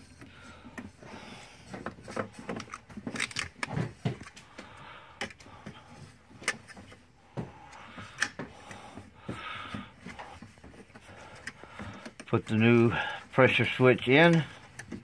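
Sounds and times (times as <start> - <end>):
small fittings clicking and knocking: 1.6 - 13.0, 14.0 - 15.0.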